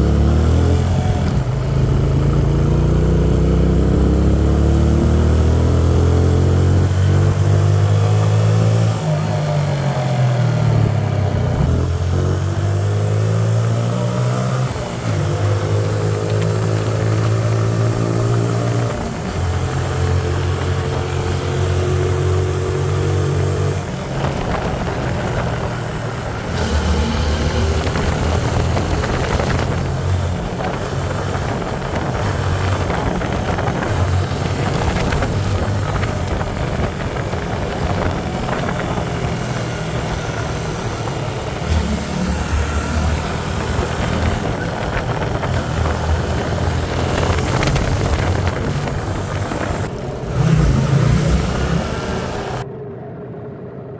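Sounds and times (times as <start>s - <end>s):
motorcycle engine running: 0.0s - 52.7s
rushing wind noise: 0.0s - 52.7s.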